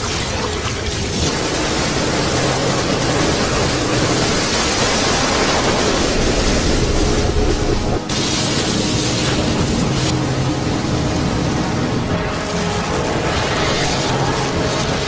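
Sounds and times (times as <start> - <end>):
seawater rushing: 0.0 - 15.0.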